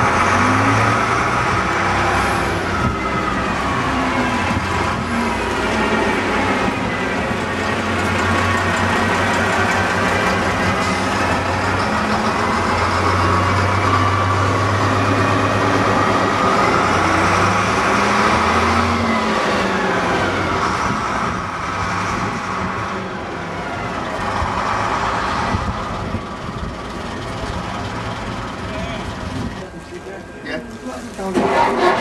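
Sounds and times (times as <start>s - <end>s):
bus diesel engine passing: 0.0s - 32.0s.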